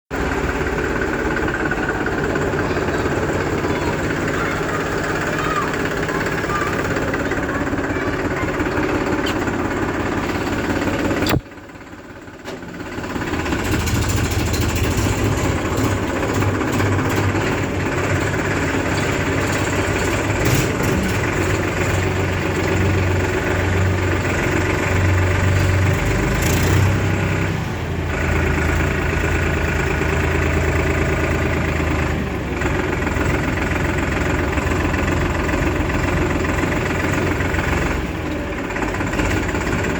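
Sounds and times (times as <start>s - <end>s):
diesel engines running: 0.1s - 39.9s.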